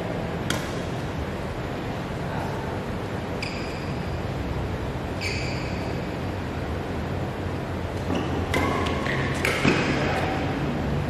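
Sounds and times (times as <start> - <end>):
low hum of hall: 0.0 - 11.0.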